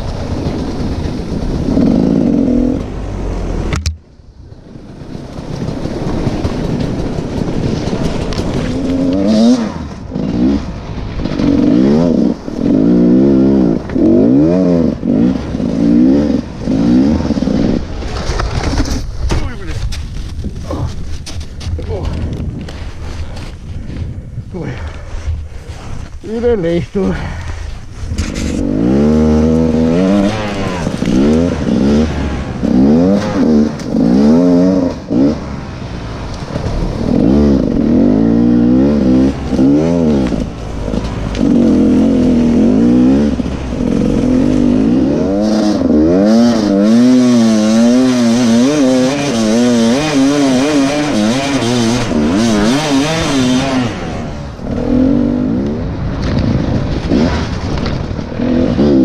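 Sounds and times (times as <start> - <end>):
dirt bike engine revving: 0.0 - 3.7, 5.6 - 18.9, 28.2 - 59.0.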